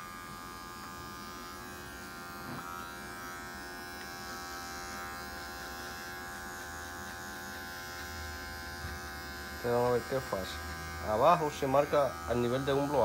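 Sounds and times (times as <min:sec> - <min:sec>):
hair clipper buzzing: 0:00.0 - 0:13.0.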